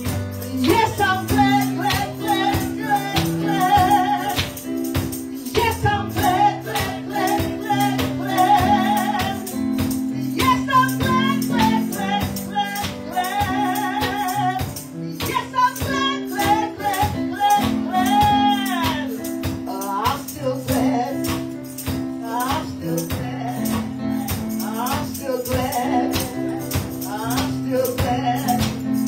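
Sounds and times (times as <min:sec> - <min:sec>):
percussion ticking on a beat: 0:00.0 - 0:29.0
woman singing gospel song: 0:00.0 - 0:29.0.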